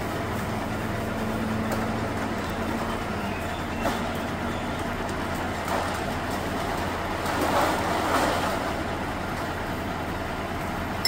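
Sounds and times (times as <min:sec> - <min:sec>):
diesel truck engine idling: 0:00.0 - 0:08.0, 0:08.6 - 0:11.0
rubbish clattering and rustling: 0:00.3 - 0:09.5.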